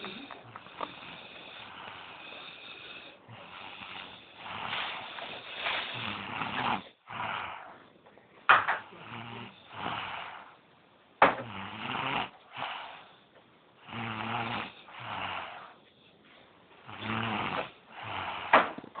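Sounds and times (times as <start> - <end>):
child snoring: 0.0 - 7.8, 8.8 - 10.6, 11.3 - 13.1, 13.8 - 15.8, 16.8 - 18.9.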